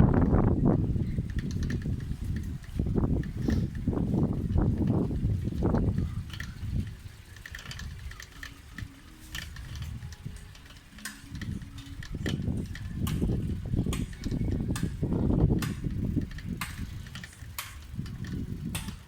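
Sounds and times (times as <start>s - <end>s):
bicycle clicks and ticks: 0.0s - 19.0s
wind rushing over microphone: 0.0s - 19.0s.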